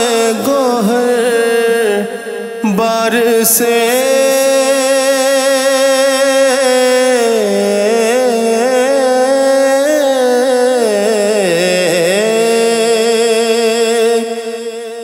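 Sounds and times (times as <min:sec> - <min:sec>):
man singing long wavering note: 0:00.0 - 0:15.0.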